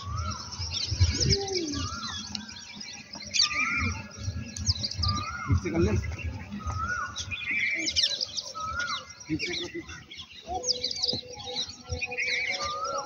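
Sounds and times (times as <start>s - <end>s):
birds chirping: 0.0s - 13.0s
rising and falling bird whistle: 0.0s - 13.0s.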